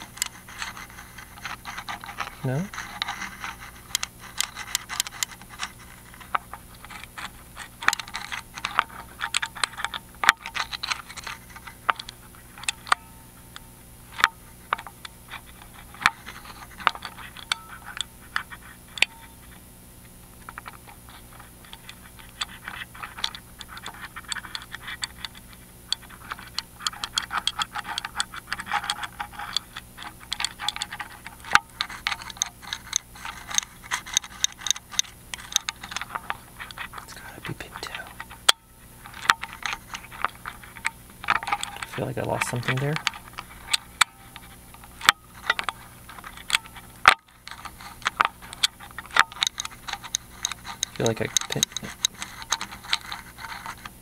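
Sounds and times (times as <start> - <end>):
lock pick scraping and clicking: 0.0 - 19.6, 20.4 - 37.1, 38.0 - 54.0.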